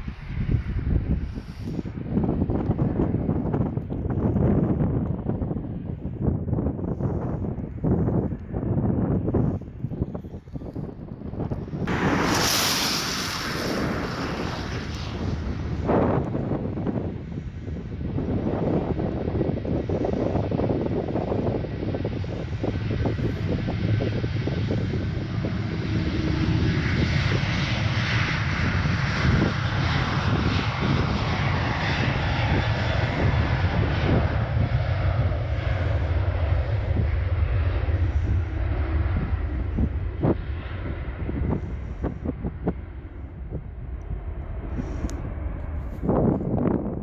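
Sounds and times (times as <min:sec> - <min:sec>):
jet engines roaring: 0:00.0 - 0:47.0
wind rumble on microphone: 0:00.0 - 0:47.0.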